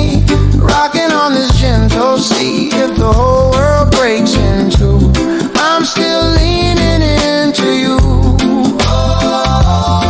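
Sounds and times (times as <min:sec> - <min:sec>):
reggae music: 0:00.0 - 0:10.0.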